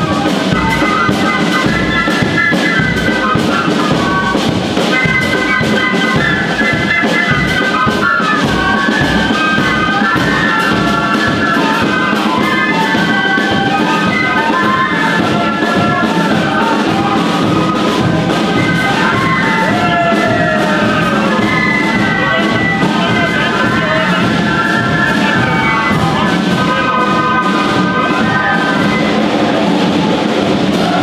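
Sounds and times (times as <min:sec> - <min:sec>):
flute band playing melody: 0:00.0 - 0:31.0.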